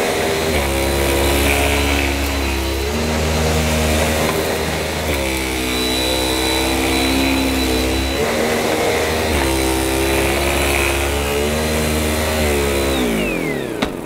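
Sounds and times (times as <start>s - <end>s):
vacuum cleaner motor whine: 0.0s - 14.0s
vacuum motor winding down: 0.0s - 14.0s.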